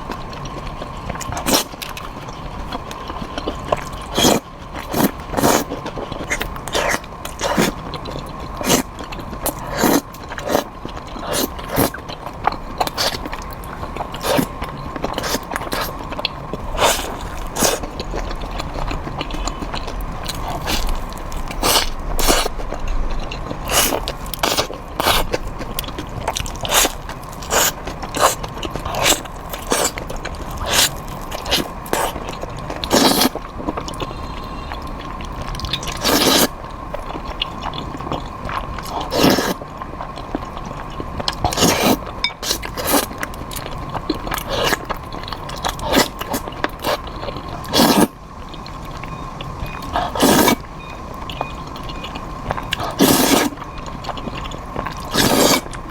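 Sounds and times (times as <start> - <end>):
crunchy chewing: 0.0 - 55.9.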